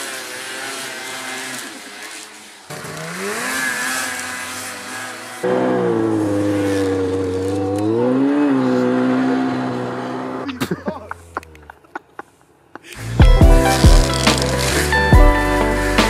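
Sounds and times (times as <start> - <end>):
snowmobile engine under throttle: 0.0 - 16.0.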